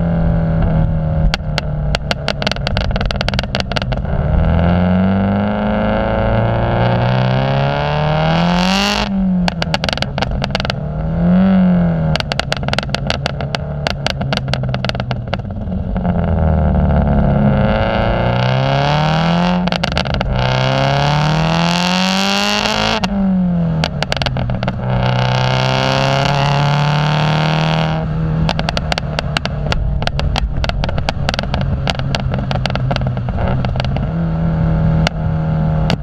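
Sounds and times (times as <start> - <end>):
car engine revving: 0.0 - 36.0
exhaust crackle: 0.0 - 36.0.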